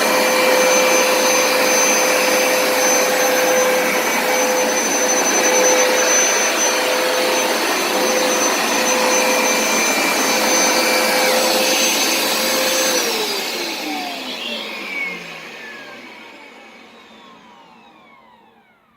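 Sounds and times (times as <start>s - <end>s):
carpet cleaner suction motor whine: 0.0s - 18.9s.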